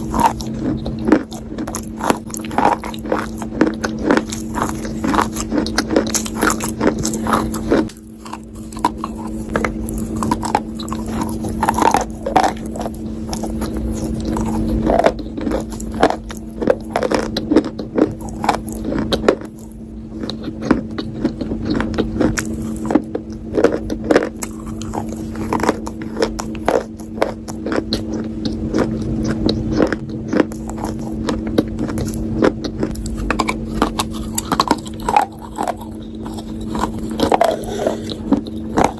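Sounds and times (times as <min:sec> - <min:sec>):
biting and crunching: 0:00.0 - 0:38.9
chewing: 0:00.0 - 0:38.9
steady low hum: 0:00.0 - 0:38.9.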